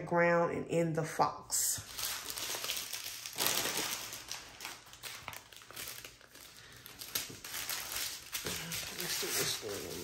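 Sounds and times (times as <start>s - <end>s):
plastic bags crinkling: 1.8s - 10.0s.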